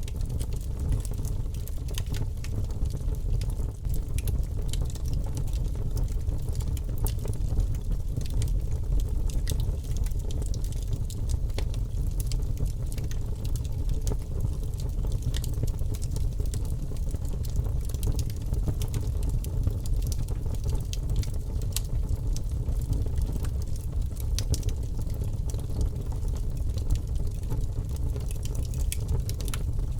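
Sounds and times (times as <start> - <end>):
crackles and pops of burning logs: 0.0 - 29.9
low rumble of flame: 0.0 - 29.9.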